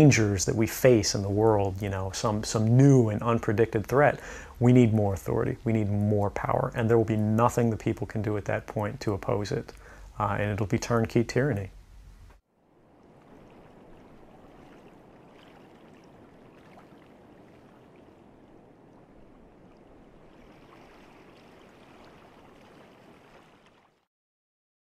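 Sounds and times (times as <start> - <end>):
faint rushing ambient noise: 0.0 - 23.4.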